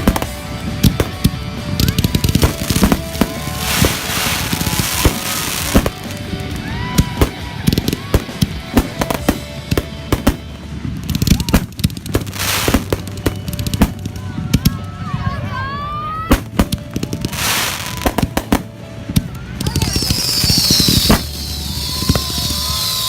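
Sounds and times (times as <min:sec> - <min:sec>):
firecrackers banging and popping: 0:00.0 - 0:15.1, 0:16.3 - 0:23.0
fireworks hissing: 0:00.0 - 0:15.3, 0:16.0 - 0:23.0.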